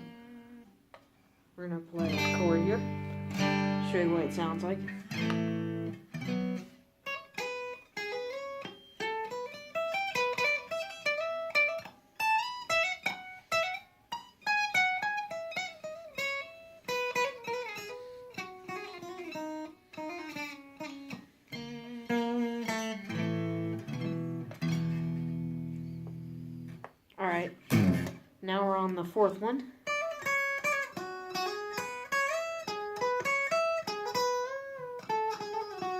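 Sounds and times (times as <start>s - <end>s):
electric guitar playing: 0.0s - 0.7s, 1.6s - 26.8s, 27.6s - 28.3s, 29.8s - 35.9s.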